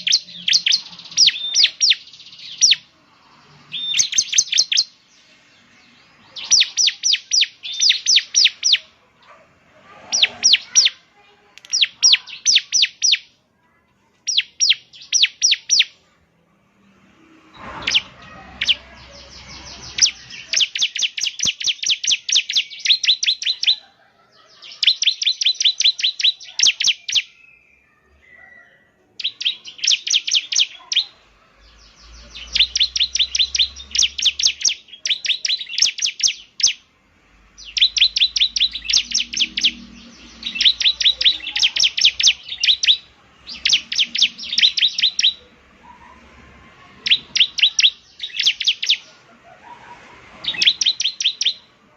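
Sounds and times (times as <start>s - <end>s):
bird singing high sharp chips: 0.0s - 8.9s, 11.6s - 13.4s, 14.2s - 16.0s, 17.8s - 23.8s, 24.7s - 27.8s, 29.2s - 46.2s, 47.0s - 49.2s, 50.1s - 51.8s.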